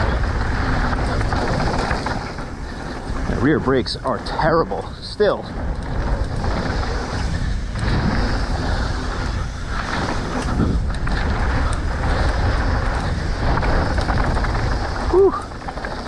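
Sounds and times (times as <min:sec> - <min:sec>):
bike clicks and rattles: 0:00.0 - 0:16.0
bike tyre noise: 0:00.0 - 0:16.0
wind rushing over microphone: 0:00.0 - 0:16.0.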